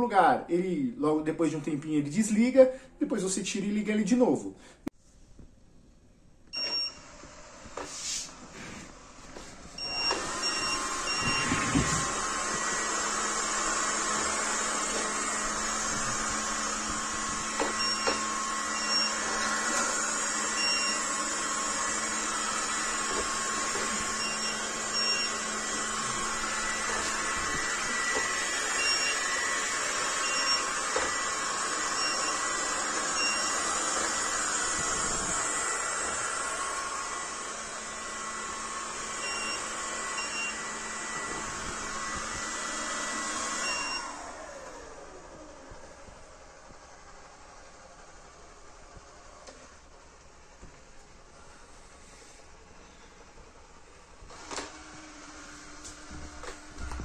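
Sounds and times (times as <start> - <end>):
robot vacuum whirring hum: 6.6 - 57.0.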